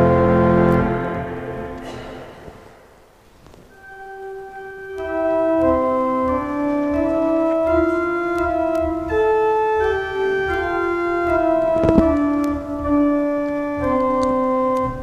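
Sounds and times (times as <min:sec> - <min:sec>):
organ playing chords: 0:00.0 - 0:02.8, 0:03.7 - 0:15.0.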